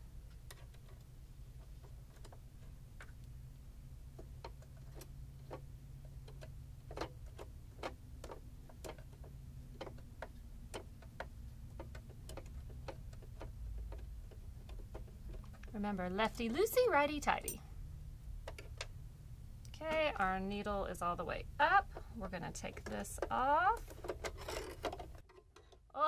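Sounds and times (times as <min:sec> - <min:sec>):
steady low hum: 0:00.0 - 0:25.3.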